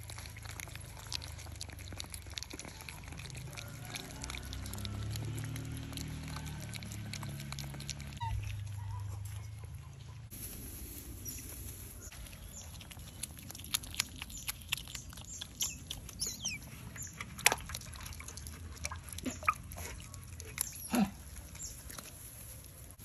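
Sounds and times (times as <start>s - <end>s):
animals feeding clicks and smacks: 0.0s - 10.2s, 11.0s - 23.0s.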